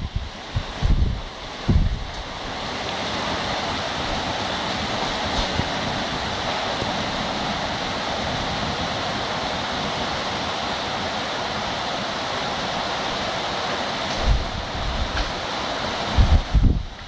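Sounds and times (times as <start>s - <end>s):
wind buffeting microphone: 0.0s - 12.9s, 14.1s - 17.0s
heavy rain hissing: 0.0s - 17.0s
wind-tossed trees: 0.0s - 17.0s.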